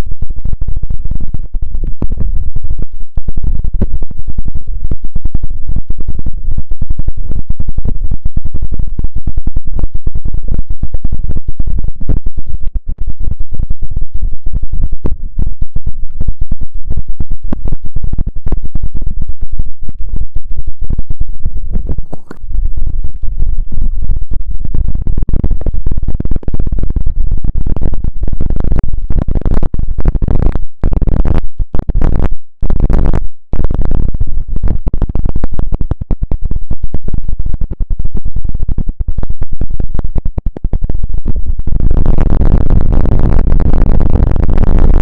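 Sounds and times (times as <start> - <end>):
scratching and tapping on microphone: 0.0 - 45.0.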